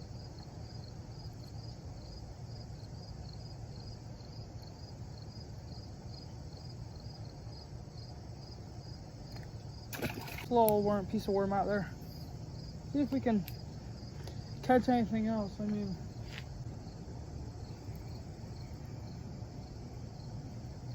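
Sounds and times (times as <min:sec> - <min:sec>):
insect chirping: 0:00.0 - 0:20.9.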